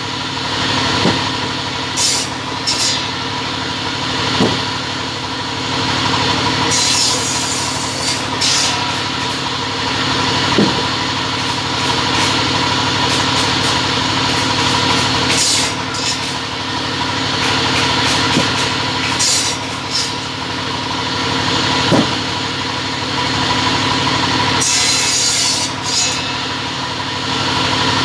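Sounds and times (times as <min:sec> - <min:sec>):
cutting machine motor hum: 0:00.0 - 0:28.0
hissy sawing: 0:00.5 - 0:05.1, 0:05.7 - 0:27.9.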